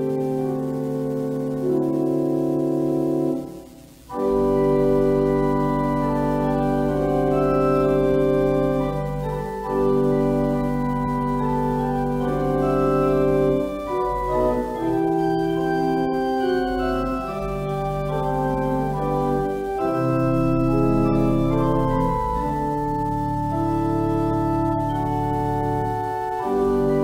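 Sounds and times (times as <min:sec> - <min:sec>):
organ chords: 0:00.0 - 0:27.0.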